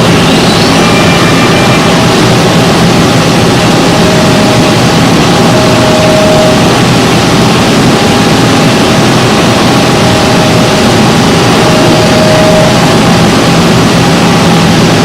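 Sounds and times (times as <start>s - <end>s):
high machine whines: 0.0s - 15.0s
milling machine humming: 0.0s - 15.0s.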